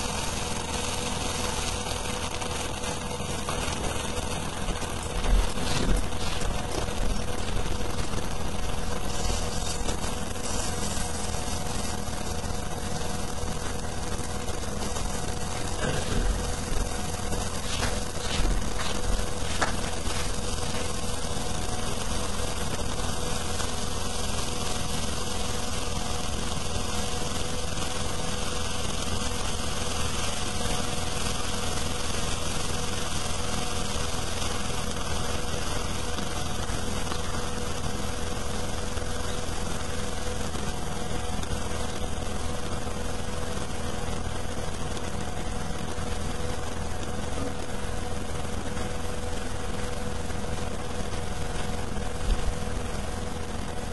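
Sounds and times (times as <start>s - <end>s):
buzzing hum: 0.0s - 53.9s
even hiss: 0.0s - 53.9s.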